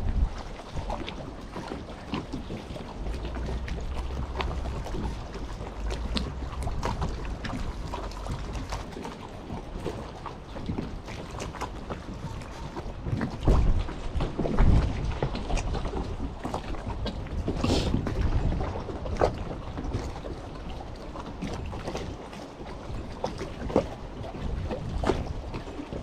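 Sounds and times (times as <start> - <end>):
knocks and clatter on boat: 0.0 - 26.0
wind buffeting microphone: 0.0 - 26.0.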